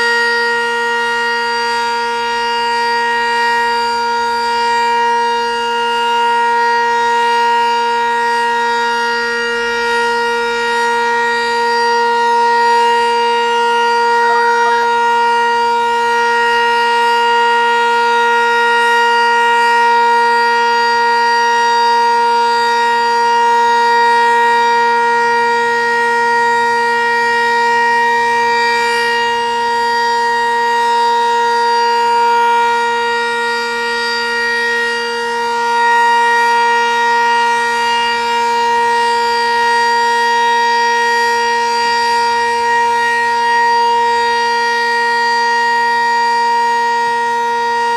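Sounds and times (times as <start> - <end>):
rotating warning siren: 0.0 - 47.9.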